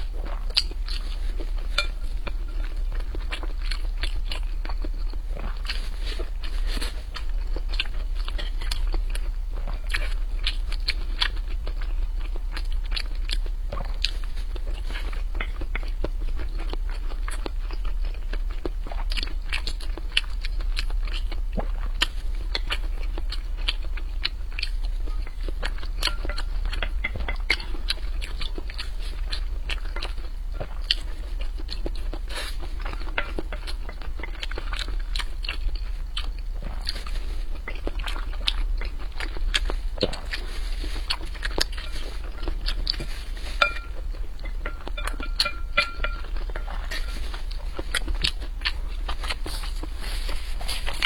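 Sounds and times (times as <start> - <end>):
steady low hum: 0.0 - 51.0
chewing and wet mouth clicks: 0.2 - 51.0.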